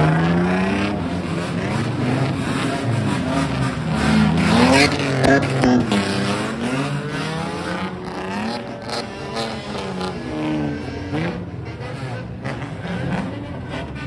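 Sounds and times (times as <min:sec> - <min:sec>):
modified car engines revving: 0:00.0 - 0:14.0.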